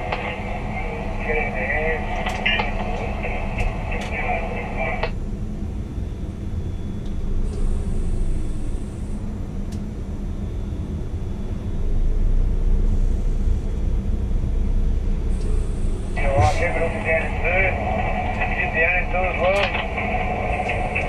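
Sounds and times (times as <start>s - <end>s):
crane machinery low rumble: 0.0s - 21.0s
faint high whine: 0.0s - 21.0s.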